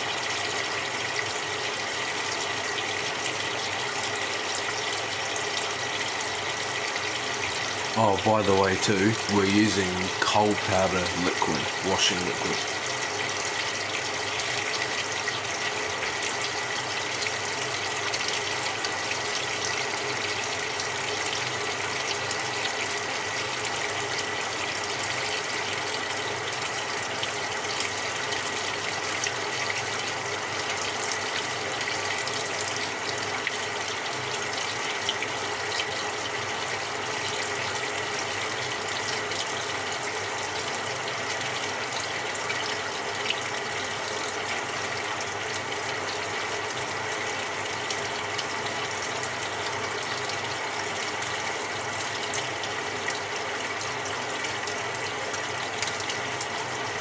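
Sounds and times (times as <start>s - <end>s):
water rushing into washing machine: 0.0s - 57.0s.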